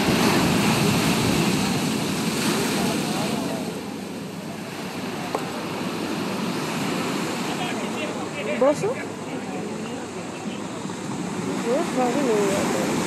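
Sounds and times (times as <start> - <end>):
waves crashing against seawall: 0.0 - 13.0.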